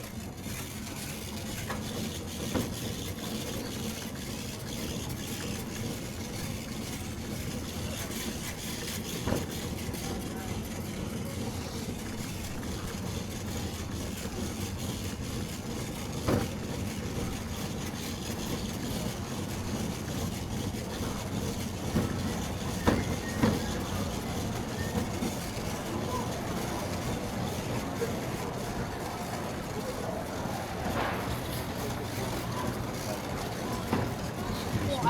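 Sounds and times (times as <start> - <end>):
shopping cart wheels rattling: 0.0 - 35.0.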